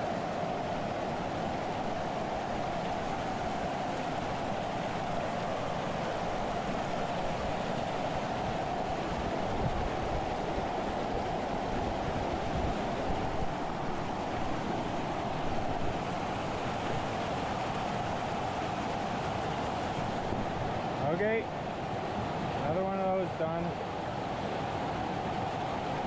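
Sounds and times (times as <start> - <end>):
creek rushing over rocks: 0.0 - 26.0.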